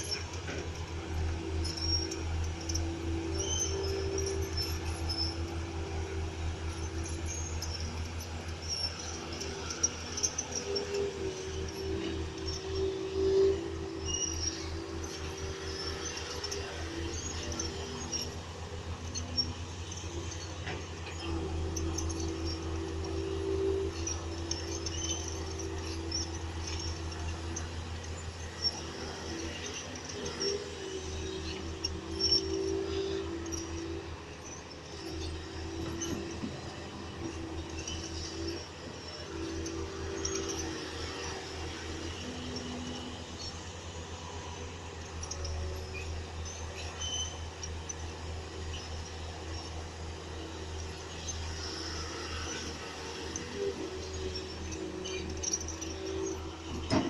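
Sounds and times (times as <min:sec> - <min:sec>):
crawler tracks squeaking: 0:00.0 - 0:57.0
diesel machinery engine pulsing: 0:00.0 - 0:57.0.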